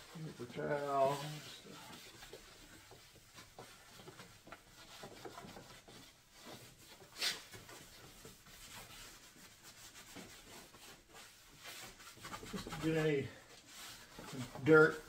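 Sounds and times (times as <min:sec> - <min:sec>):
cloth rubbing plastic: 0:00.0 - 0:15.0.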